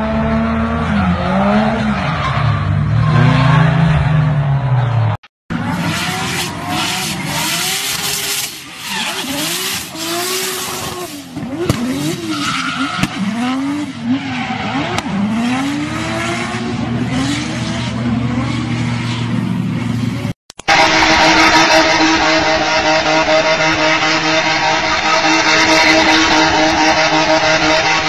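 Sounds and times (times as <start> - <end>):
car engine revving: 2.6 - 28.0.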